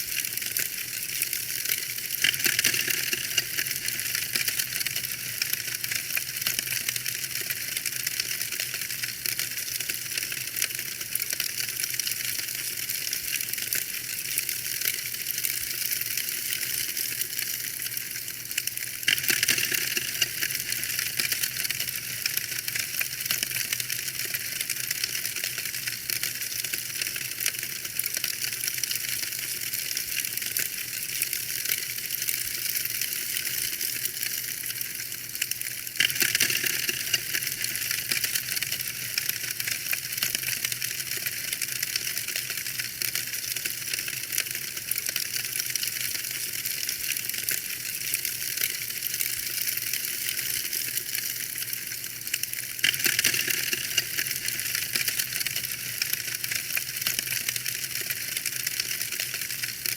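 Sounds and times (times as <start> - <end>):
fire crackling in a fireplace: 0.0 - 59.9.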